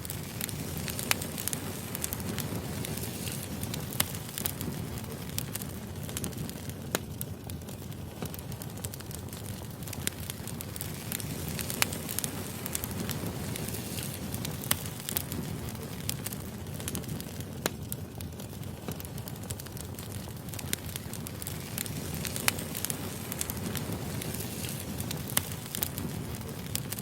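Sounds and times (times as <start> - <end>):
firewood crackling and popping: 0.0 - 27.0
low rumble of flames: 0.0 - 27.0.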